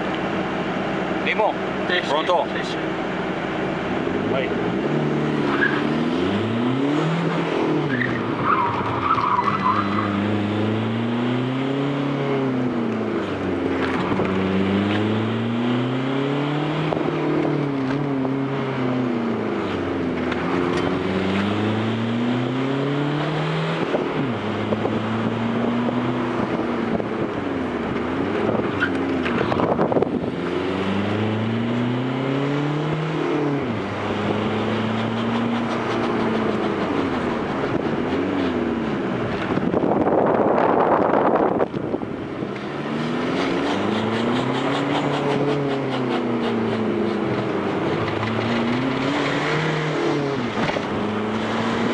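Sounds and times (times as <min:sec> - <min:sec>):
diesel engine revving: 0:00.0 - 0:51.9.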